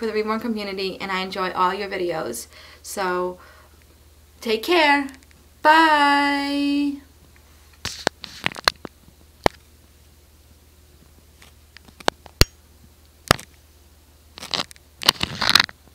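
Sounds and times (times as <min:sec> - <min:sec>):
electrical hum: 0:00.0 - 0:15.9.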